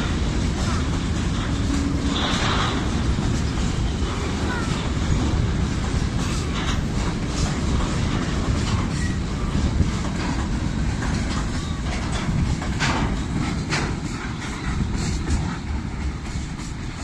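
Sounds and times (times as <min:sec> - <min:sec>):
train wagons rumbling: 0:00.0 - 0:17.0
wheels clattering over rail joints: 0:00.0 - 0:17.0.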